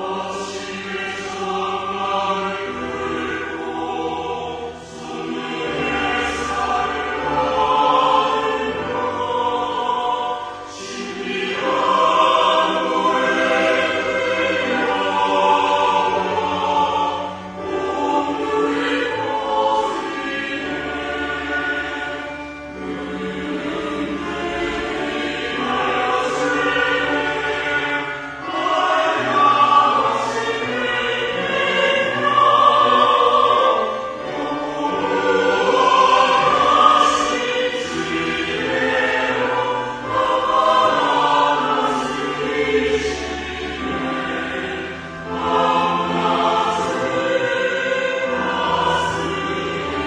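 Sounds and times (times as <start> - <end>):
church choir singing: 0.0 - 50.0.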